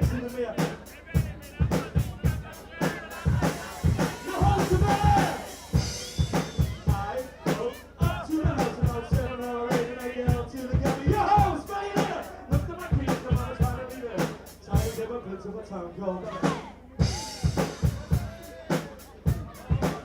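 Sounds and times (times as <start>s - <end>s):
live rock band playing: 0.0s - 15.0s, 17.0s - 20.0s
drum kit beat: 0.0s - 15.1s, 16.4s - 20.0s.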